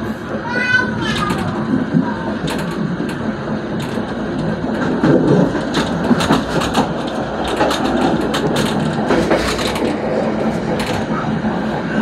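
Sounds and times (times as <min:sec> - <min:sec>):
train wheels rumbling on rails: 0:00.0 - 0:12.0
wheels clacking over rail joints: 0:00.0 - 0:12.0.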